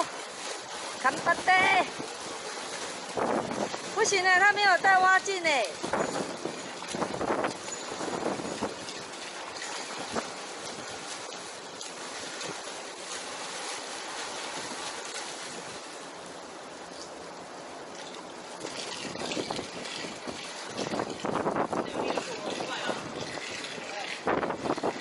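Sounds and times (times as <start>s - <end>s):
swimmer splashing water: 0.0s - 25.0s
wind: 0.0s - 25.0s.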